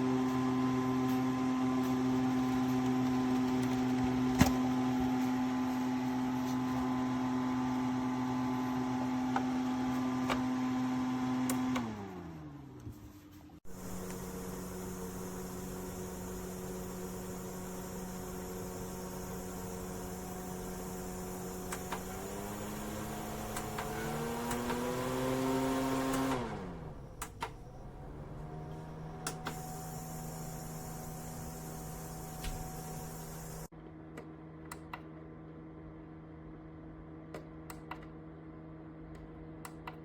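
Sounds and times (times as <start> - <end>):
small fan motor hum: 0.0 - 33.7.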